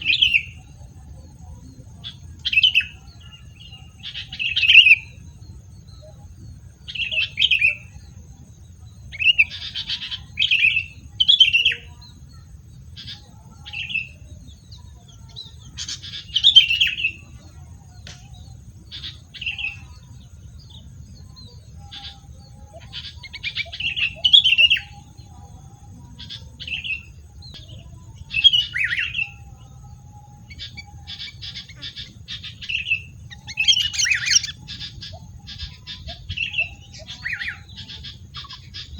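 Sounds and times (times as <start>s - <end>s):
songbird chirpy calls: 0.0s - 38.9s.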